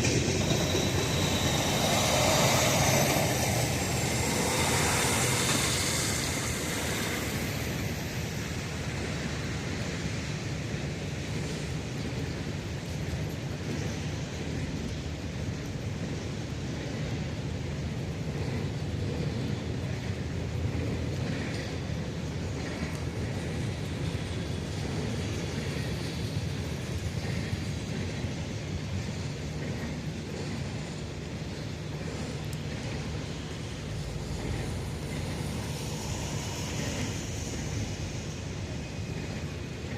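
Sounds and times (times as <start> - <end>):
train hissing: 0.0 - 14.2, 18.6 - 39.9
freight train rumbling past: 0.0 - 39.9.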